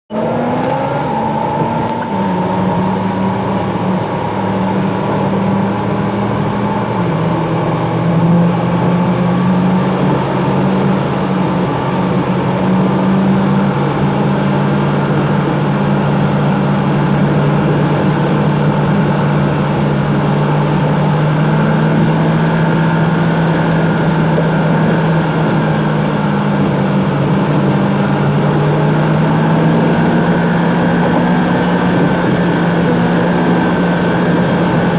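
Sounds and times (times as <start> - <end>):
car engine hum: 0.1 - 34.9
road noise: 0.1 - 34.9.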